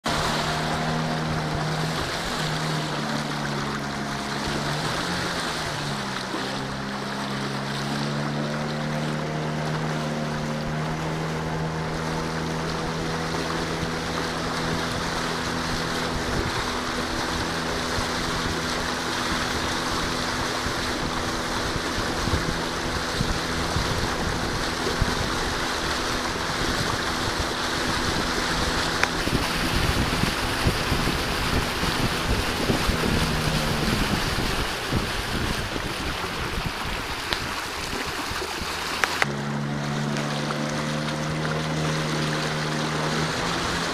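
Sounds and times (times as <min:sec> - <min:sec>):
boat engine running: 0:00.0 - 0:43.9
water rushing past hull: 0:00.0 - 0:43.9
wind on microphone: 0:00.1 - 0:39.3.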